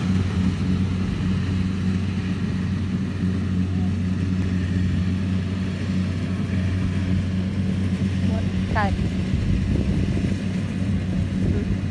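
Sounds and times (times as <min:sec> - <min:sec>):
diesel engine low drone: 0:00.0 - 0:11.9.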